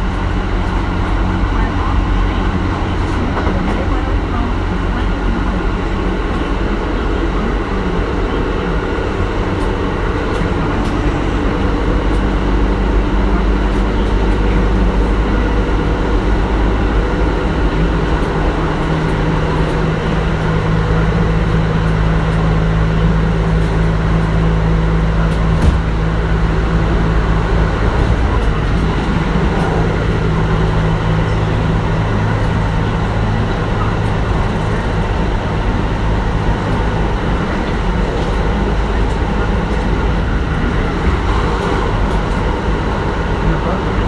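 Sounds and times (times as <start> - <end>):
train wheels and motors rumbling: 0.0 - 44.0.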